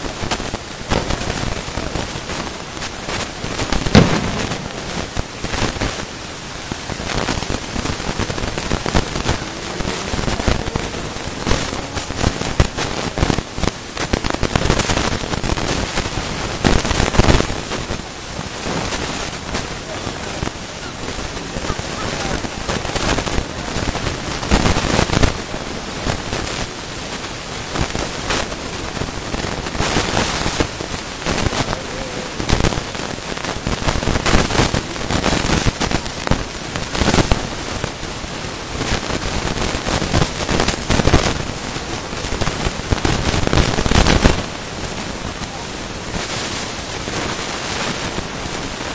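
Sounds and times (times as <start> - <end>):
fireworks bangs: 0.0 - 48.7
continuous hiss: 0.0 - 48.9.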